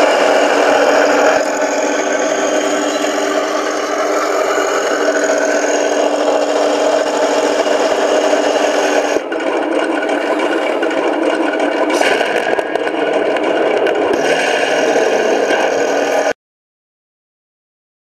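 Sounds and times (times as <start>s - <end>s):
simulated tank engine from speaker: 0.0s - 16.4s
whir and rattle of tracks: 0.0s - 16.4s.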